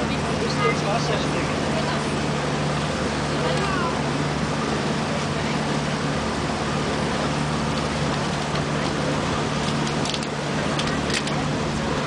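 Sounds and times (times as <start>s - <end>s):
boat motor droning: 0.0s - 12.0s
water and wind rushing: 0.0s - 12.0s.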